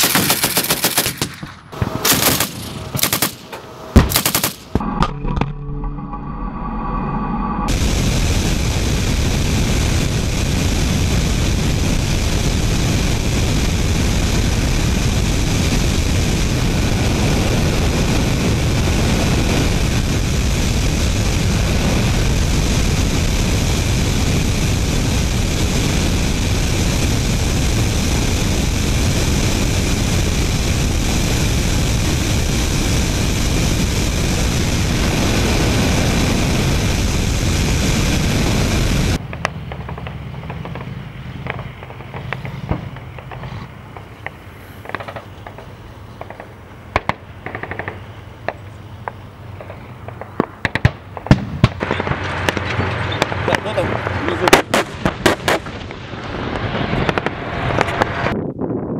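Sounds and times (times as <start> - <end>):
jet engine and airflow rush: 0.0 - 58.9.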